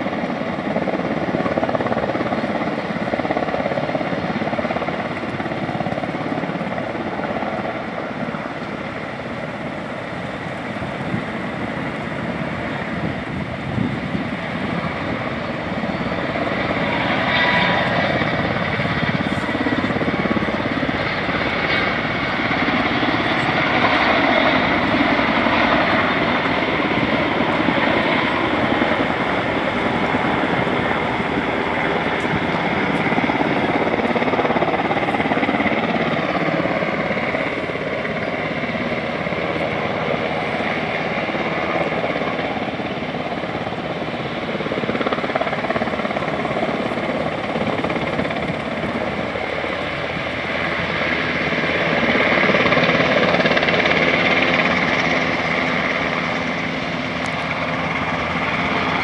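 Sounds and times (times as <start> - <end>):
helicopter rotors beating: 0.0 - 59.0.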